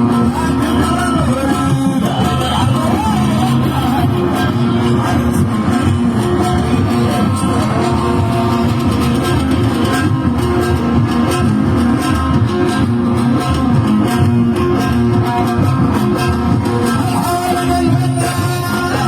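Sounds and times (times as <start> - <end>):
band music: 0.0 - 19.0
plucked guitar: 0.0 - 19.0.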